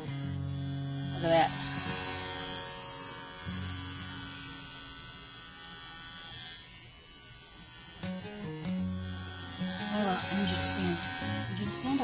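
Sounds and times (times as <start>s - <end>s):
pet clipper buzzing: 0.0s - 12.0s.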